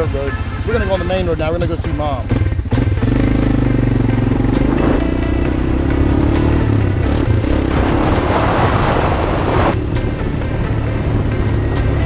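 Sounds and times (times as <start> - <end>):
quad bike engine running: 0.0 - 8.4, 9.8 - 12.0.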